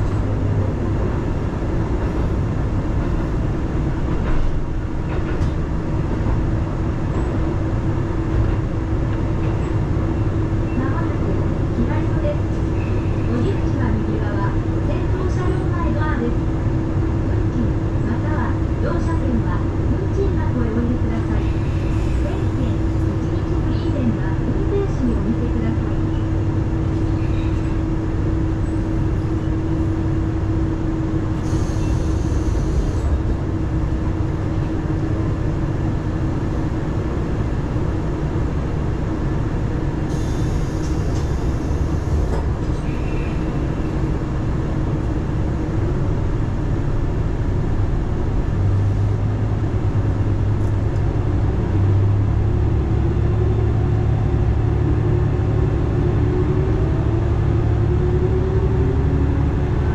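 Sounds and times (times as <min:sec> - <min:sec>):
diesel railcar engine rumble: 0:00.0 - 0:59.9.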